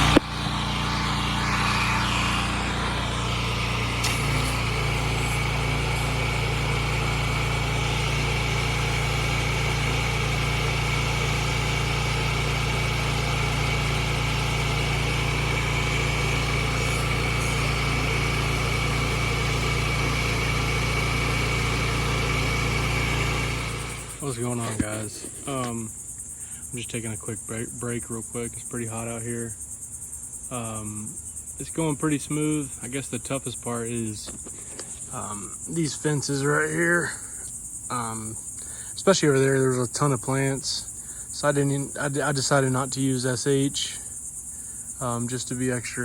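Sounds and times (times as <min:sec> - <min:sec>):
pressure washer engine running: 0:00.0 - 0:25.9, 0:30.5 - 0:46.0.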